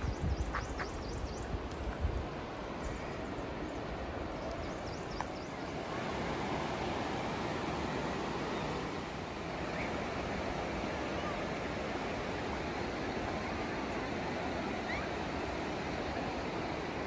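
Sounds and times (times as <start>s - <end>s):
river rushing over boulders: 1.6s - 17.0s.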